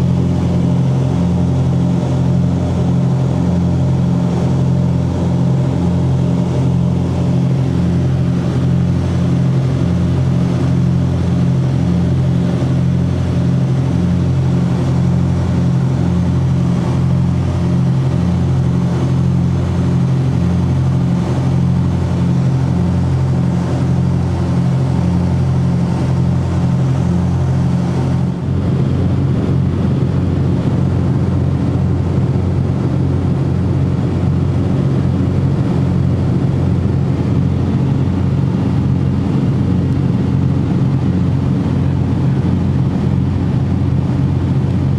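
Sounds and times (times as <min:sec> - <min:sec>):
piston aircraft engines droning: 0:00.0 - 0:44.9.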